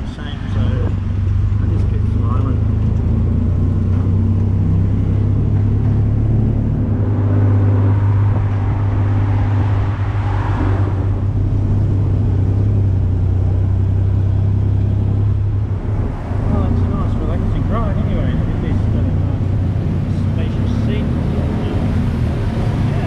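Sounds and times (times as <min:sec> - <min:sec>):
auto rickshaw engine humming: 0:00.0 - 0:23.0.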